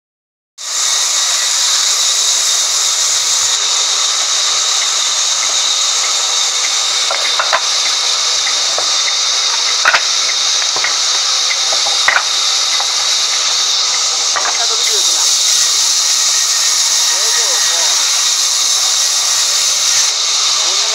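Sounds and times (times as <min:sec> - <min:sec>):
band saw cutting log: 0:00.6 - 0:20.9.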